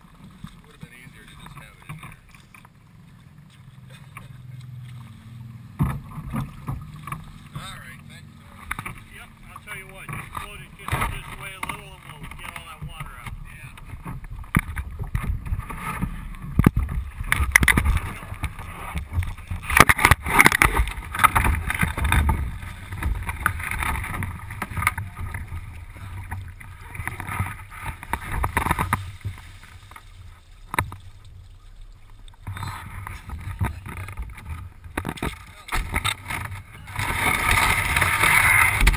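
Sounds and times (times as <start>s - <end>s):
low rumble of handling noise: 0.0s - 38.9s
knocks and rubbing on canoe hull: 0.2s - 7.9s, 8.5s - 31.3s, 32.4s - 38.9s.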